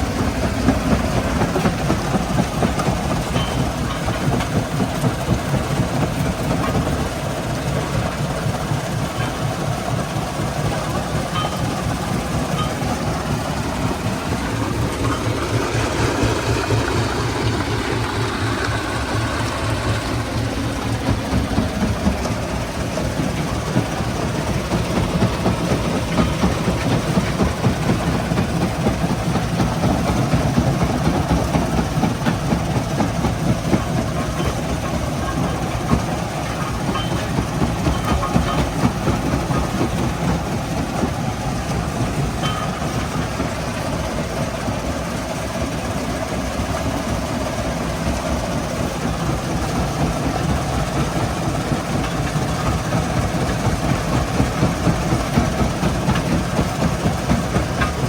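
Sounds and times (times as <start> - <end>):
heavy machinery running: 0.0 - 58.0.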